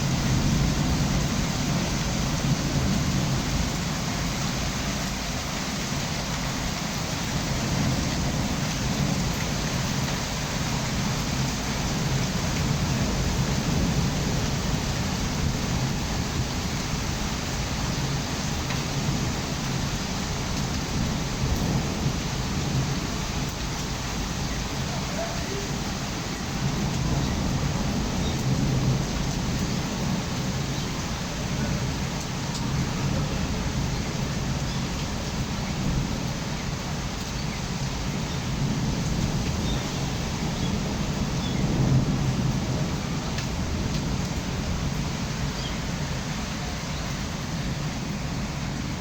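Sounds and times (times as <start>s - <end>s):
rain falling: 0.0s - 49.0s.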